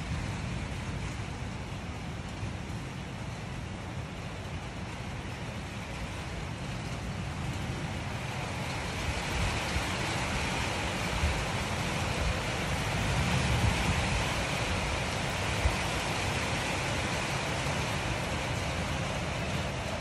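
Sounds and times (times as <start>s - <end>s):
strong storm wind: 0.0s - 20.0s
wind buffeting microphone: 0.0s - 20.0s.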